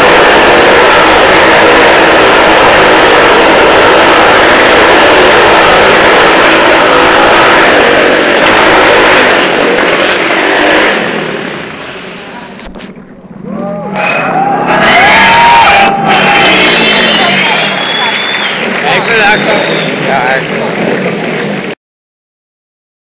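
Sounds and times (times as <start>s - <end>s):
loud motorcycle engines running: 0.0s - 21.8s.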